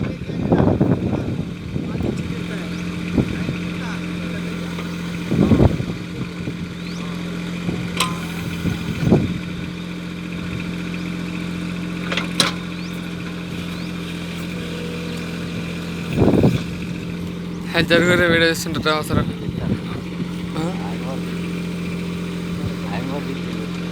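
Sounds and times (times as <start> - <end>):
tractor engine running: 0.0 - 23.9.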